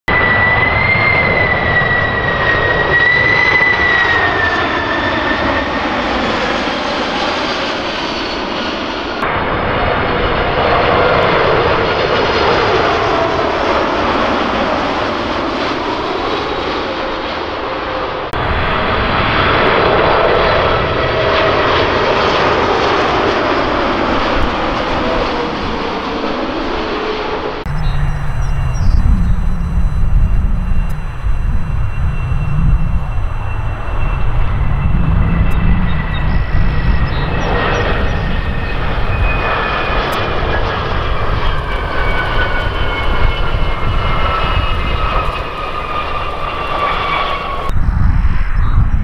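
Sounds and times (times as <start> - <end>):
jet airliner passing overhead: 0.1 - 49.0.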